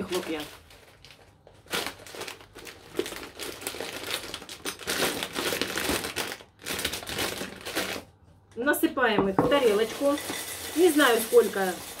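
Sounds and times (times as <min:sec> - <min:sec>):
plastic bag crinkling: 0:00.0 - 0:08.2, 0:09.5 - 0:12.0.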